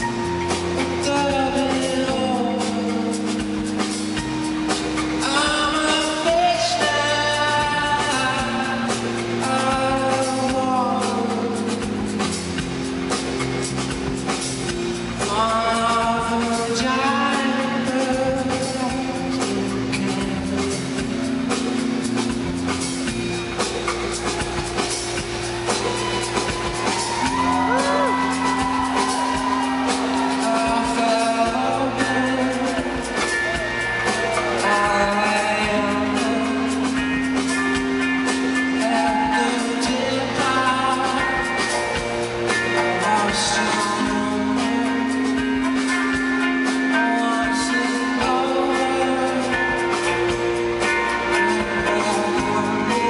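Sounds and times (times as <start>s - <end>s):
live rock band playing: 0.0s - 53.0s
person singing lead vocal: 0.0s - 53.0s.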